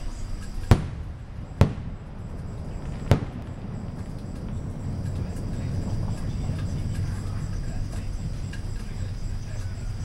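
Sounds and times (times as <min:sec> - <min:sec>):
fireworks bangs: 0:00.0 - 0:09.4
low background rumble: 0:00.0 - 0:10.0.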